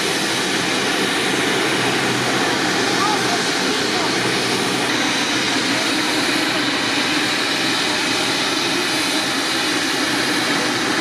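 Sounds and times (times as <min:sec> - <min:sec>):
helicopter turbine and rotor noise: 0:00.0 - 0:11.0.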